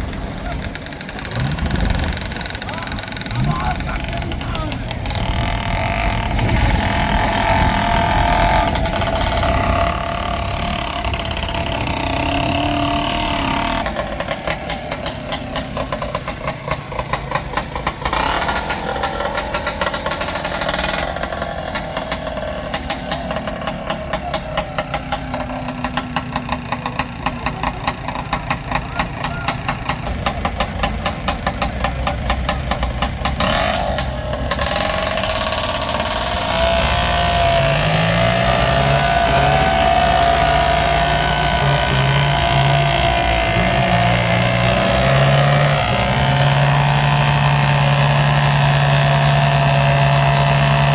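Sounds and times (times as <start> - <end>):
engine chugging: 0.0 - 50.9
tractor diesel engines under load: 0.0 - 50.9.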